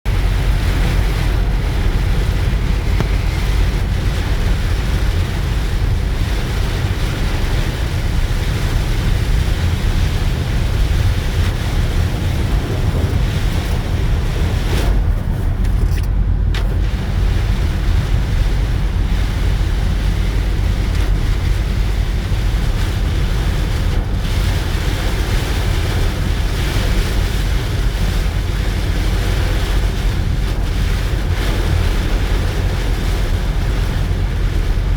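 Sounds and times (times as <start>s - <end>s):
deep road rumble: 0.0s - 34.9s
rain hiss on car: 0.1s - 15.8s, 16.5s - 34.9s.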